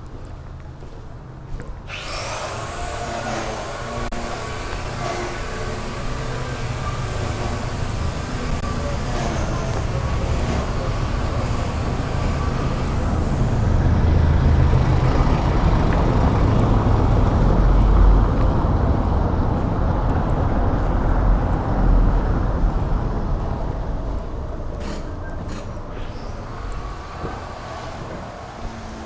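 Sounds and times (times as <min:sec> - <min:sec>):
vehicle passing by: 0:02.0 - 0:25.3, 0:26.0 - 0:29.0.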